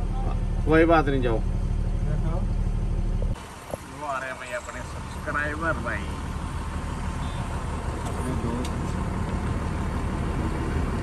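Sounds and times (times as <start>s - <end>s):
road noise: 0.0s - 11.0s
truck engine running: 0.0s - 11.0s.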